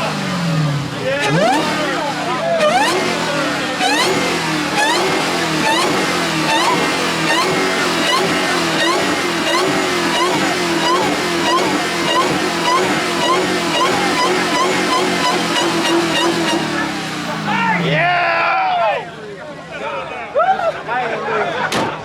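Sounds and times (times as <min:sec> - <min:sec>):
car engine revving: 0:00.0 - 0:18.3.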